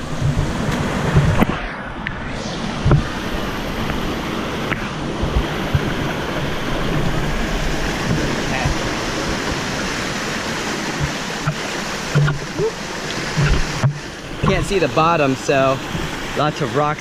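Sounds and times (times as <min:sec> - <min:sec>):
low bumps: 0:00.0 - 0:15.2
waterfall and stream rushing: 0:00.0 - 0:17.0.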